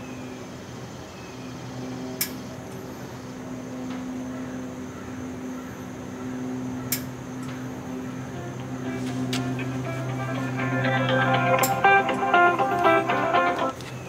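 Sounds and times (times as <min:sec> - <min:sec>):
machine humming: 0:01.5 - 0:14.0.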